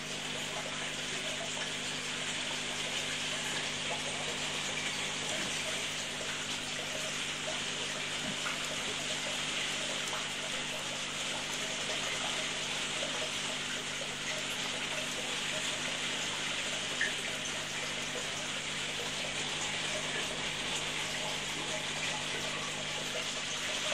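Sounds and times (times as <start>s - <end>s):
low pump hum: 0.0s - 23.9s
water splashing into tank: 0.0s - 23.9s.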